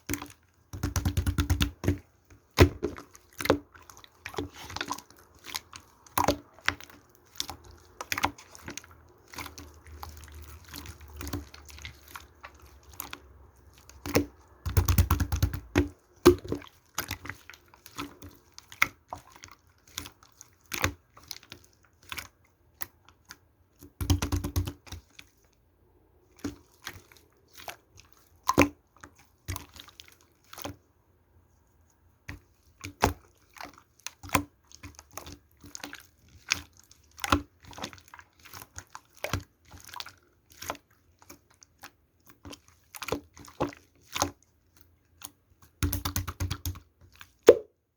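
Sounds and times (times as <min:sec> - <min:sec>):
slime squished by hand: 0:00.0 - 0:25.4, 0:32.3 - 0:47.7
rapid crackling of slime: 0:00.0 - 0:25.6, 0:26.2 - 0:30.9, 0:32.3 - 0:47.5.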